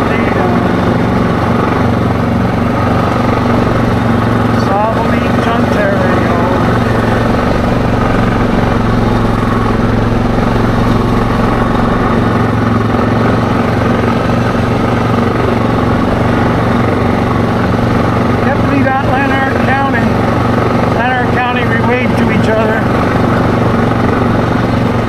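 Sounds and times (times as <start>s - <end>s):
atv engine droning: 0.0s - 25.0s.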